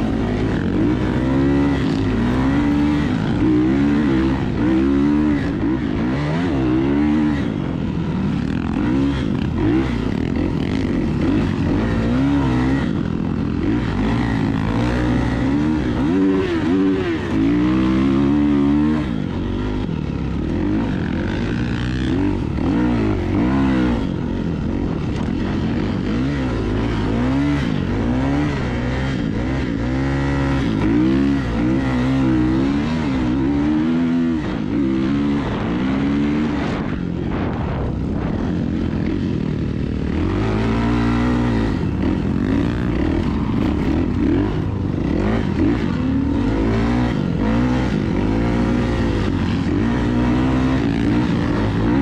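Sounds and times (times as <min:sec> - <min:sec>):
vehicle engine revving: 0:00.0 - 0:52.0.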